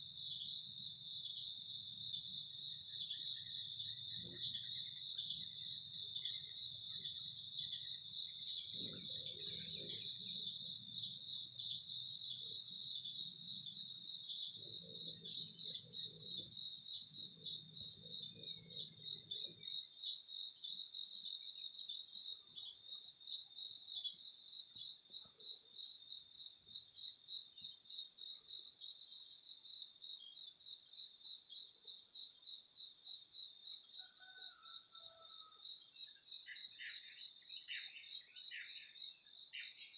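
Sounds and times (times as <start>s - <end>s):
pulsing insect trill: 0.0s - 34.6s.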